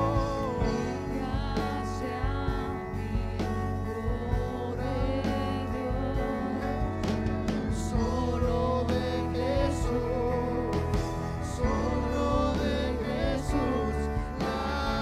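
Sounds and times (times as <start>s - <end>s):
bass guitar: 0.0s - 15.0s
electric guitar: 0.0s - 15.0s
keyboard: 0.0s - 15.0s
steady drum beat: 0.0s - 15.0s
voices singing with vibrato: 0.0s - 15.0s.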